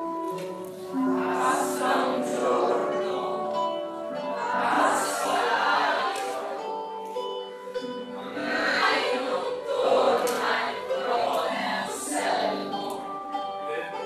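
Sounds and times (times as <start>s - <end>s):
held instrumental notes: 0.0s - 14.0s
choir singing: 0.8s - 13.4s.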